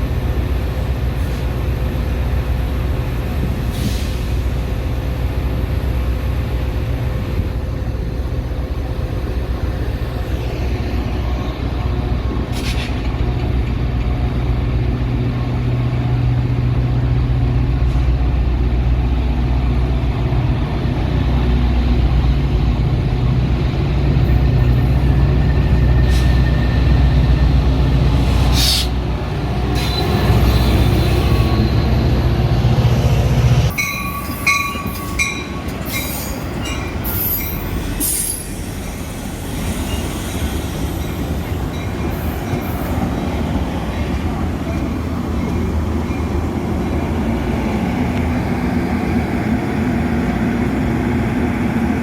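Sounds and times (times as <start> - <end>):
train engine rumble: 0.0 - 52.0.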